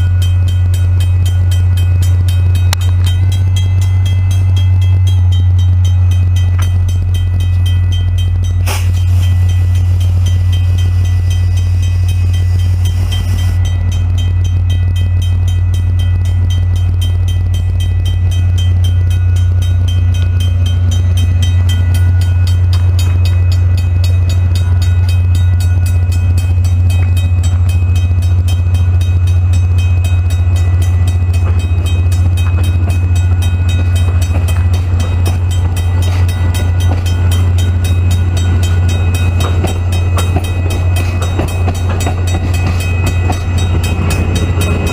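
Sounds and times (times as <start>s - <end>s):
crossing bell ringing: 0.0s - 44.9s
train rumbling: 0.0s - 44.9s.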